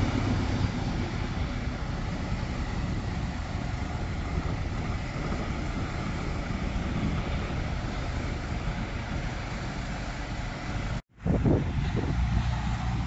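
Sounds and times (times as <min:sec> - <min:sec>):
bus and cars moving slowly: 0:00.0 - 0:13.0.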